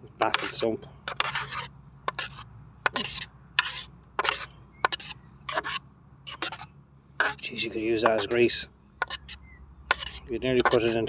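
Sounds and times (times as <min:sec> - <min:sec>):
tool scraping oil sludge: 0:00.2 - 0:11.0.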